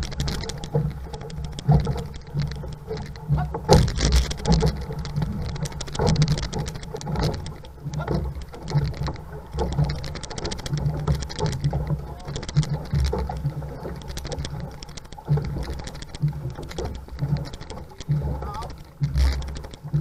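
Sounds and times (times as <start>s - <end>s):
constant low rumble: 0.0s - 20.0s
paddle blades striking water: 0.0s - 20.0s
water rushing along a canoe hull: 0.0s - 20.0s.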